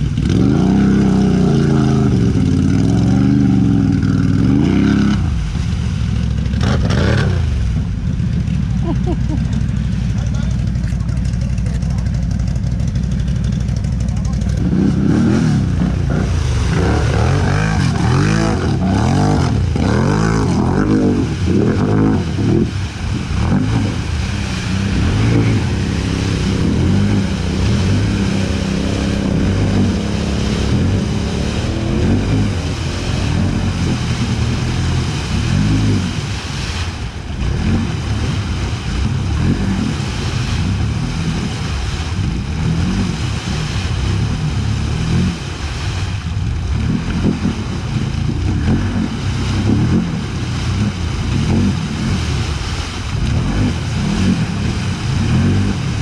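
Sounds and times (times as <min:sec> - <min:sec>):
atv engine revving: 0:00.0 - 0:36.7, 0:37.3 - 0:56.0
tyres spraying mud and water: 0:00.0 - 0:56.0.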